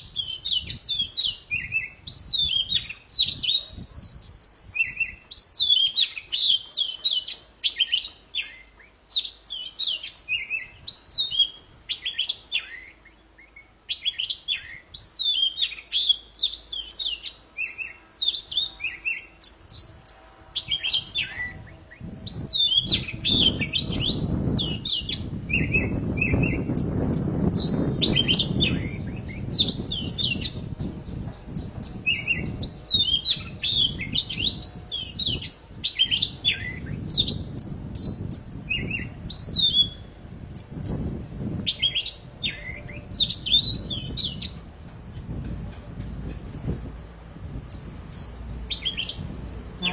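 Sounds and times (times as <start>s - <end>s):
bird singing varied chirps: 0.0s - 44.6s, 46.5s - 49.2s.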